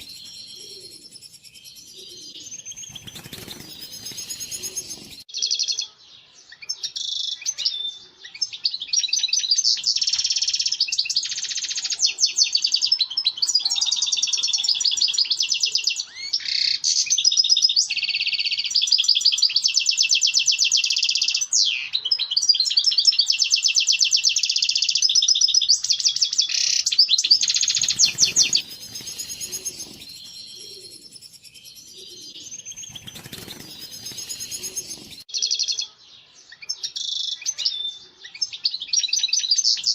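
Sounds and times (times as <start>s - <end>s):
finch twittering and trilling: 0.0s - 39.9s.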